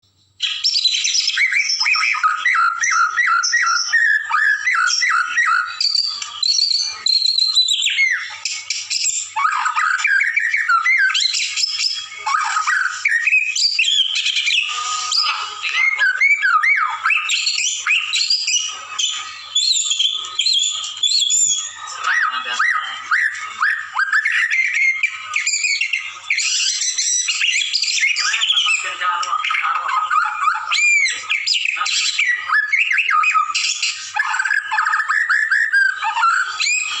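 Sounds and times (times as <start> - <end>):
bird singing whistles: 0.3 - 37.0.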